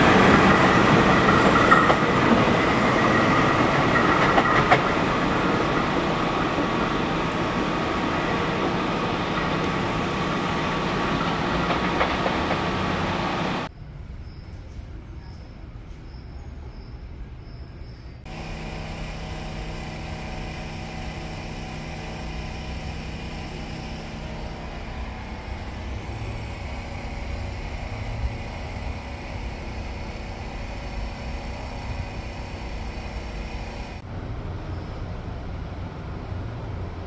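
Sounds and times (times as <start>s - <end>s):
train electrical equipment humming: 0.0s - 37.0s.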